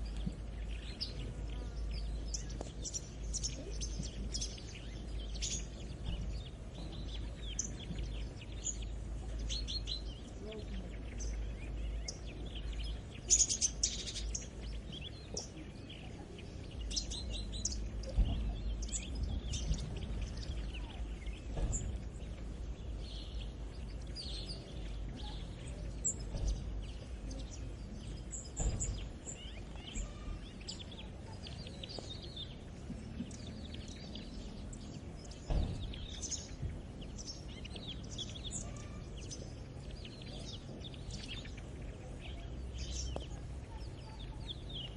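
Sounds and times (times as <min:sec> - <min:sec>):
low steady rumble: 0:00.0 - 0:44.9
small birds chirping: 0:00.0 - 0:44.9.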